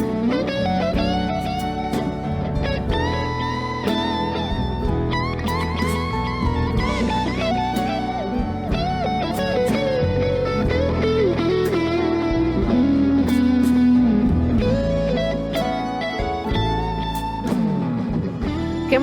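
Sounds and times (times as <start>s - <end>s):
bass: 0.0s - 19.0s
drums: 0.0s - 19.0s
electric guitar lead line: 0.0s - 19.0s.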